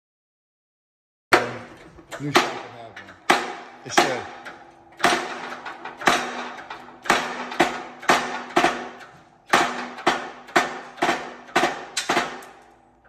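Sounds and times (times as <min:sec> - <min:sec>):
hammer striking steel: 0:01.3 - 0:13.0.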